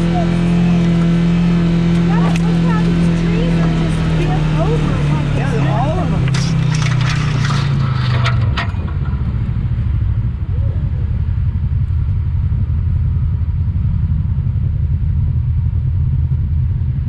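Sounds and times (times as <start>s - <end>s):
utility vehicle engine droning: 0.0s - 17.0s.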